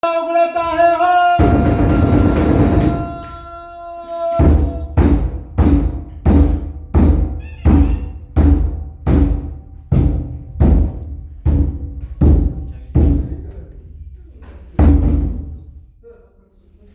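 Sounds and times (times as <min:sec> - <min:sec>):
large drum beating: 0:01.4 - 0:03.7, 0:04.3 - 0:16.0.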